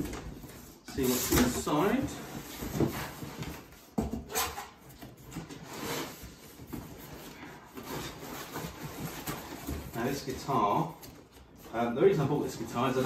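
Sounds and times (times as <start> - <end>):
cardboard box rustling and scraping: 0.0 - 10.8.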